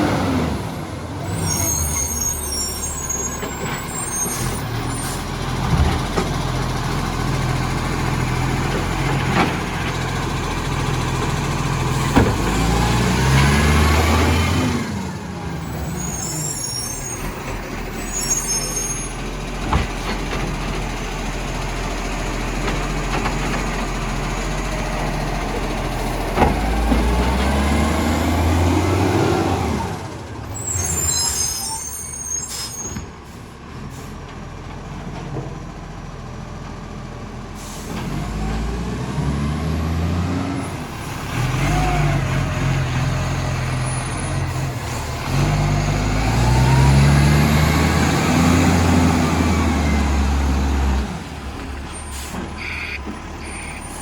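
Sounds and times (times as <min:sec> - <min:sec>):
diesel engine revving: 0:00.0 - 0:32.7, 0:37.4 - 0:54.0.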